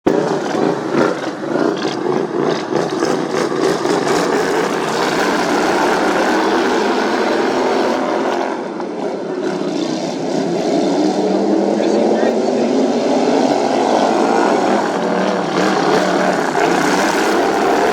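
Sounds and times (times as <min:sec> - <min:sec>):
lawn mower engines racing: 0:00.0 - 0:17.9.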